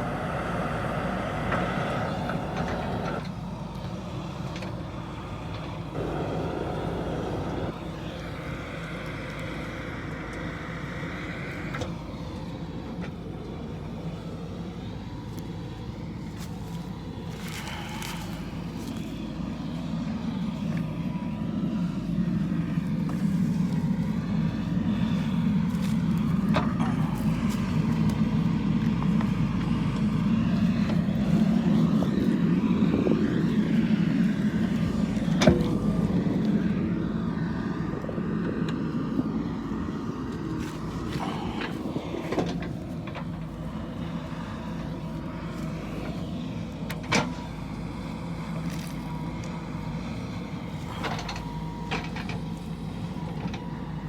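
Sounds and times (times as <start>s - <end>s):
backhoe diesel engine droning: 0.0s - 54.0s.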